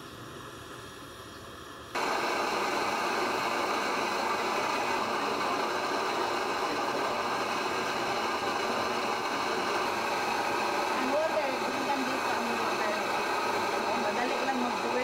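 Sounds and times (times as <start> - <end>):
pressure stove burner hissing: 0.0 - 15.0.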